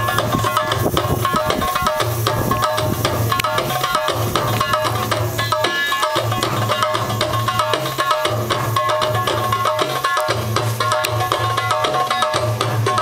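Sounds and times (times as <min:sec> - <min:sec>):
hand drums beating fast rhythm: 0:00.0 - 0:13.0.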